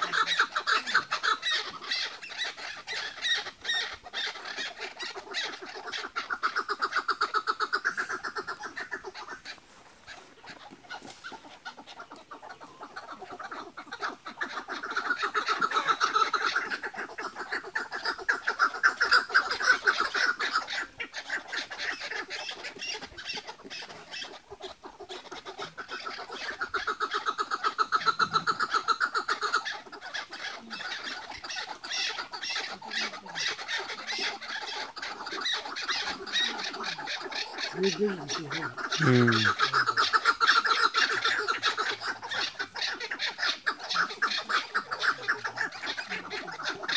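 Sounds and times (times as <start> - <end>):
partridges chattering calls: 0.0 - 46.9.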